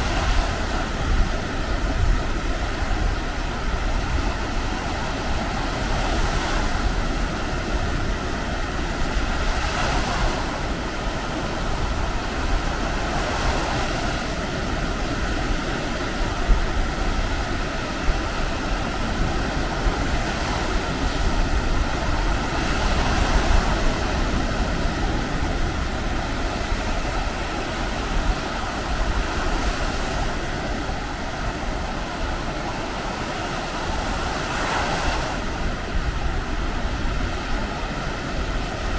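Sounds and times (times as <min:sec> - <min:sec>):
surf washing onto beach: 0:00.0 - 0:38.9
wind buffeting microphone: 0:00.0 - 0:38.9.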